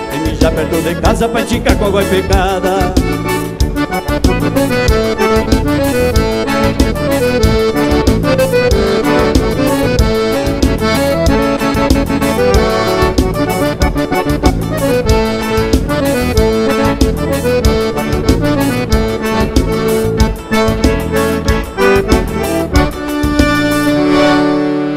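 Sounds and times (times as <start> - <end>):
accordion melody: 0.0 - 24.9.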